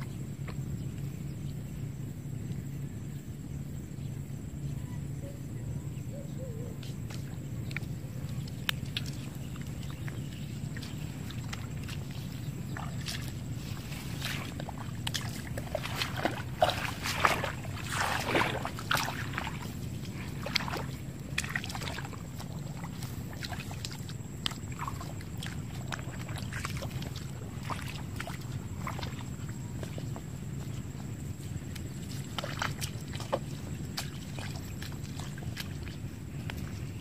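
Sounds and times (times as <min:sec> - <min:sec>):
low steady rumble: 0:00.0 - 0:37.0
feet splashing through shallow water: 0:06.0 - 0:37.0.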